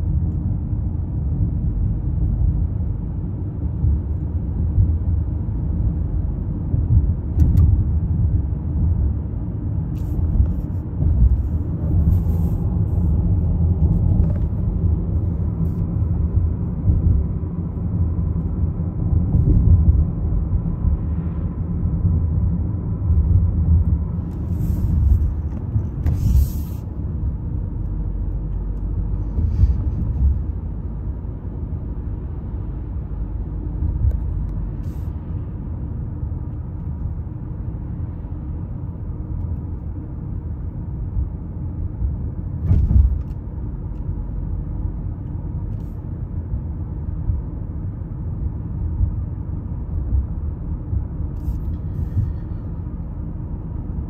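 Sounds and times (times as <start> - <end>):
car cabin road and engine rumble: 0.0 - 54.0.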